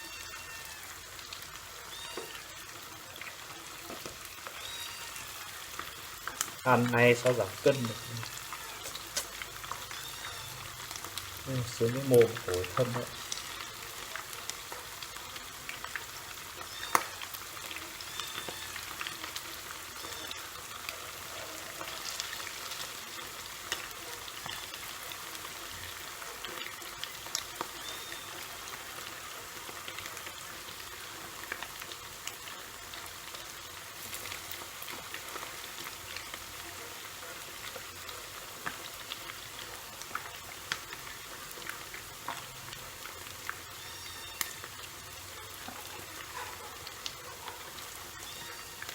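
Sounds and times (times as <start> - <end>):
chicken deep-frying in hot oil: 0.0 - 48.9
oil popping and crackling: 0.0 - 48.9.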